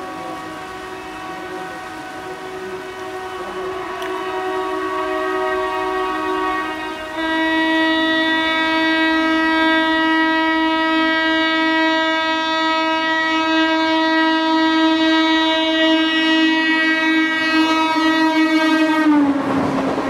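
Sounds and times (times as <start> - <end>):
train horn blast: 0.0 - 20.0.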